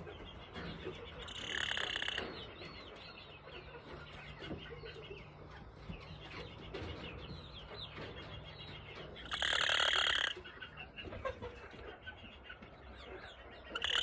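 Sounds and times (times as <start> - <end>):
hen clucking and chirping: 0.0 - 14.0.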